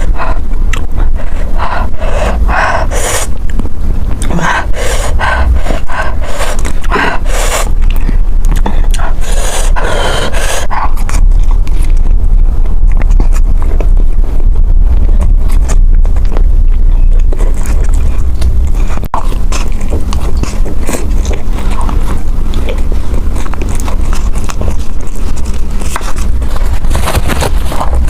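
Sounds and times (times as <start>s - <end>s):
person chewing and biting food: 0.0s - 14.2s, 14.8s - 28.0s
low microphone rumble: 0.0s - 28.0s.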